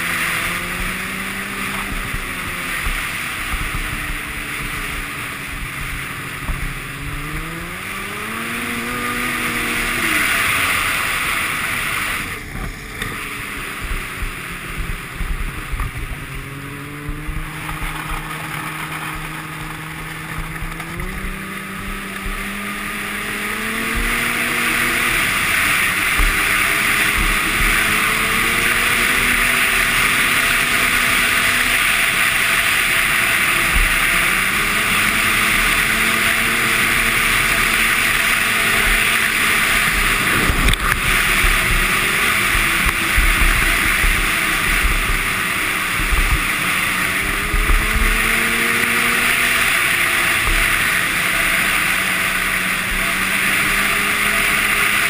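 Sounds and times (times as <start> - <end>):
snowmobile engine at speed: 0.0 - 55.0
steady rushing noise: 0.0 - 55.0.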